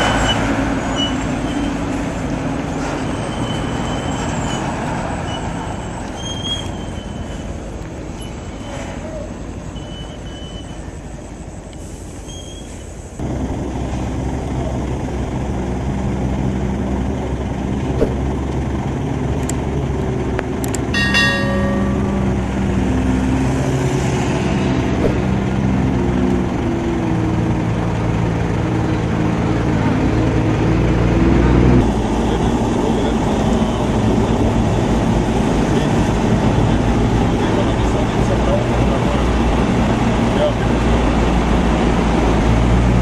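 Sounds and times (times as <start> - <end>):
heavy truck engines running: 0.0 - 43.0.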